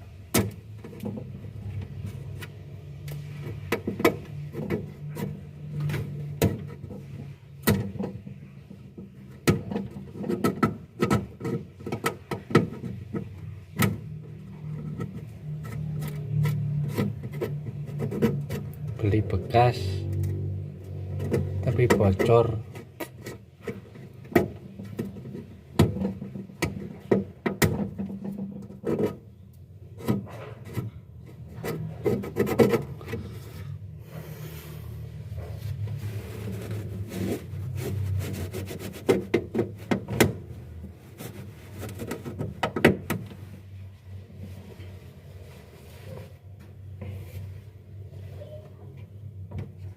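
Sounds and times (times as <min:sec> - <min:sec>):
knocks clicks and scraping: 0:00.2 - 0:48.1.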